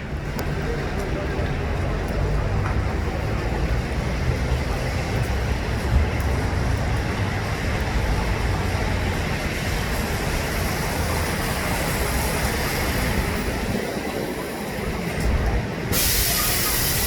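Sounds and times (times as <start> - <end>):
traffic rumble and hiss: 0.0 - 17.0.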